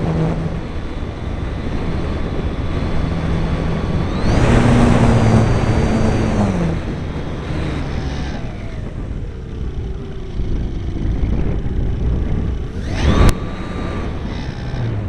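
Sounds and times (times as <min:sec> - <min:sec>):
model airplane motor whining: 0:00.0 - 0:15.0
wind rush on microphone: 0:00.0 - 0:15.0.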